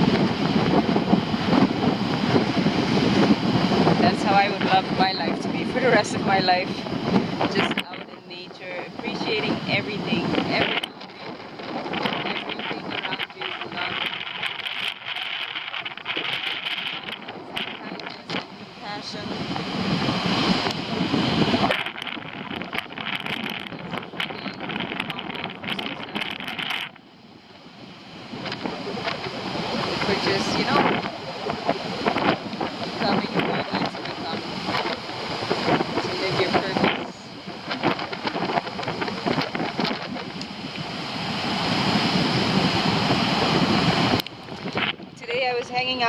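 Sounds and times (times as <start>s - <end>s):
ocean surf rushing: 0.0s - 46.0s
wind buffeting microphone: 0.0s - 46.0s.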